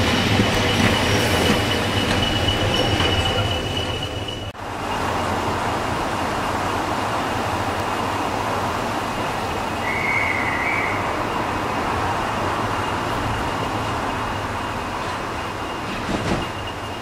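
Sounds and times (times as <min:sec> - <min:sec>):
electric locomotive rumble and hiss: 0:00.0 - 0:17.0.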